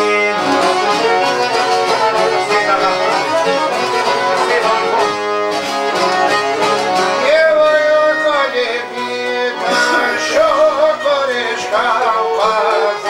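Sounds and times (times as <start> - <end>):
fiddle melody: 0.0 - 13.0
plucked strings: 0.0 - 13.0.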